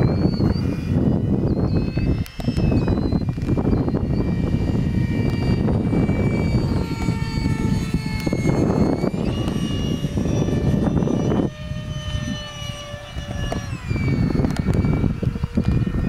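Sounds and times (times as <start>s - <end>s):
electric ducted fan whine: 0.0s - 16.0s
wind rumble on microphone: 0.0s - 16.0s.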